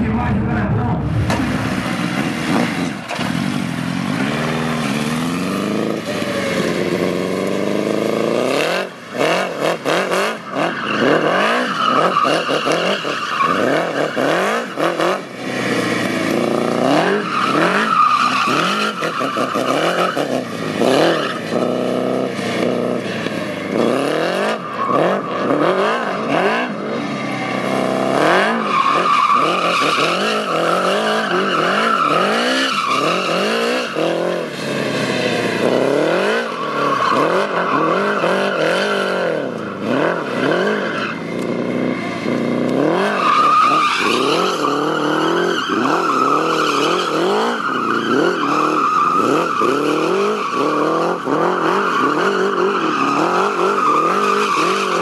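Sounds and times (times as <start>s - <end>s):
go-kart engine revving: 0.0s - 55.0s
tyres squealing on tarmac: 9.9s - 26.4s, 27.0s - 55.0s.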